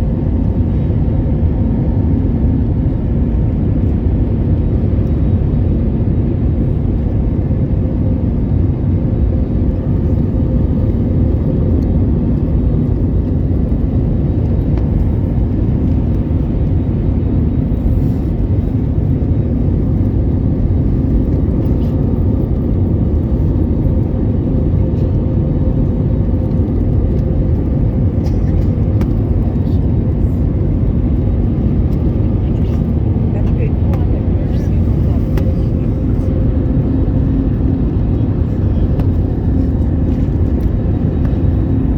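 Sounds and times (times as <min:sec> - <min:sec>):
airliner cabin rumble: 0:00.0 - 0:41.9
faint constant hum: 0:00.0 - 0:41.9.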